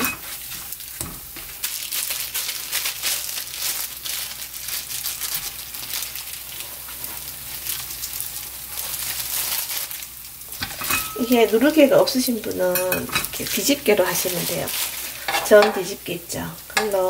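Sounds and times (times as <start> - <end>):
oil sizzling with crackles: 0.0 - 17.0.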